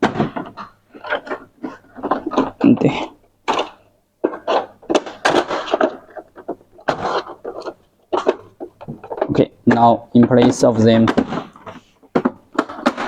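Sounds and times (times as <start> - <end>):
plastic panels knocking and clicking: 0.0 - 13.0.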